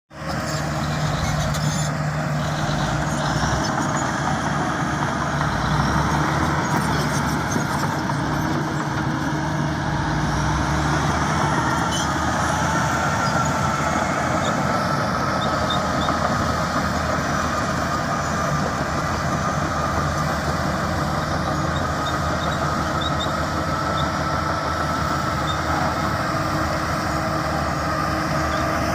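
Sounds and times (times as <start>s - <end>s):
diesel engines running: 0.1s - 28.9s.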